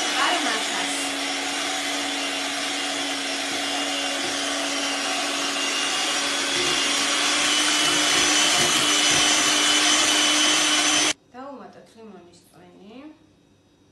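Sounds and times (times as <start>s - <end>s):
electric hand mixer whirring: 0.0s - 11.2s.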